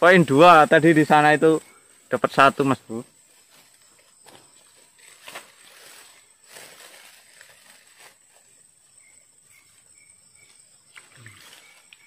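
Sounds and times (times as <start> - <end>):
grass and clothing rustling: 0.0 - 12.0
high-pitched insect whine: 0.0 - 12.0.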